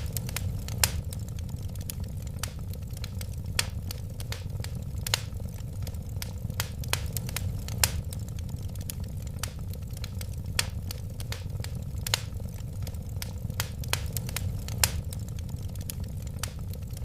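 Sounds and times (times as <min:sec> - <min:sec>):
low rumble of flames: 0:00.0 - 0:17.0
wood fire popping and snapping: 0:00.0 - 0:17.0.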